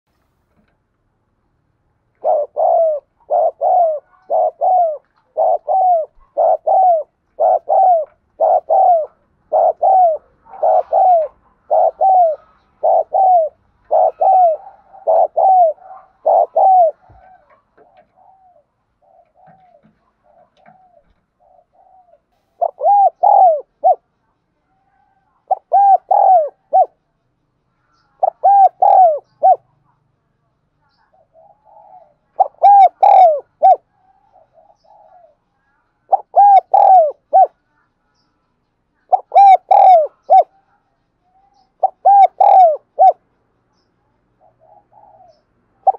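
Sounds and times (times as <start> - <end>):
dove cooing: 2.2 - 27.0, 28.2 - 29.7, 31.1 - 37.6, 39.1 - 43.2, 44.4 - 45.9.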